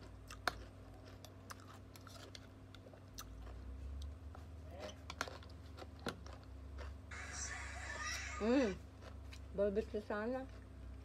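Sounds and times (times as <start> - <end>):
chewing crisp cucumber: 0.0 - 11.0.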